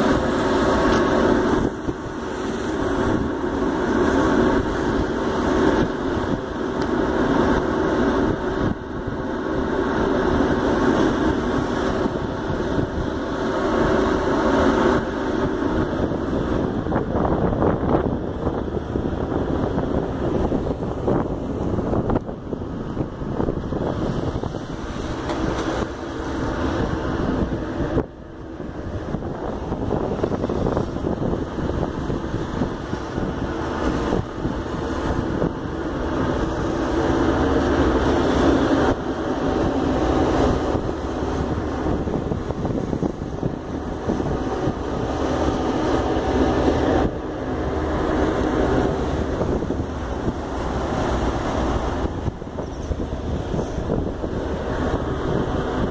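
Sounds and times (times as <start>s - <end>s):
water rushing along hull: 0.0s - 55.9s
wind buffeting microphone: 0.0s - 55.9s.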